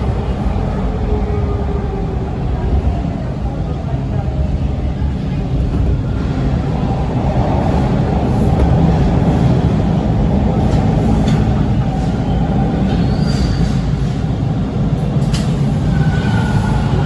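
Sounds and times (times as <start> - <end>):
subway car low rumble: 0.0 - 17.0.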